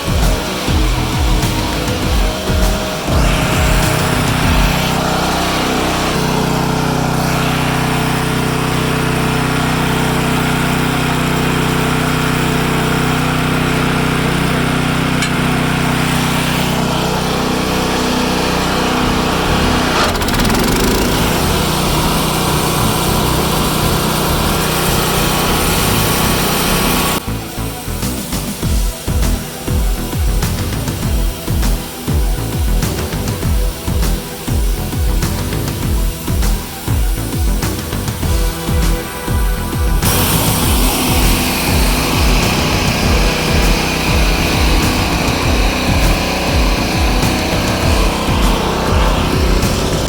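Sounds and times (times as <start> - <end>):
band sawmill engine running: 0.0 - 50.0.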